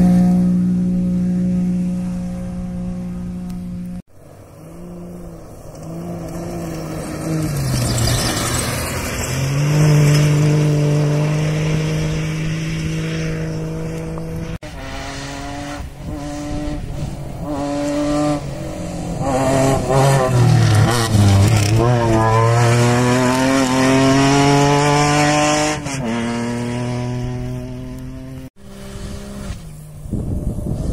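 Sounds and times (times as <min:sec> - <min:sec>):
rally cars racing at high revs: 0:00.0 - 0:30.9.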